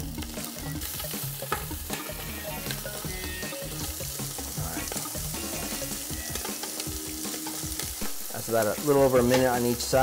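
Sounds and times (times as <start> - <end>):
shrimp sizzling in oil: 0.0 - 10.0.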